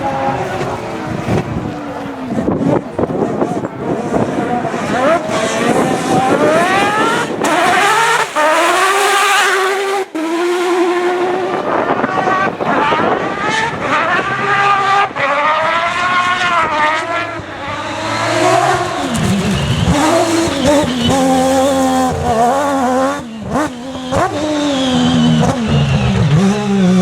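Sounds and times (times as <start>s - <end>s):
rally car engine revving hard: 0.0s - 27.0s.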